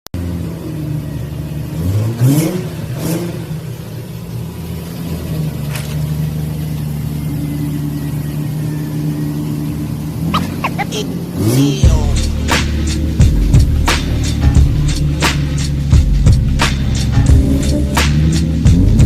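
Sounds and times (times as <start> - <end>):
car engine revving and idling: 0.2 - 19.0.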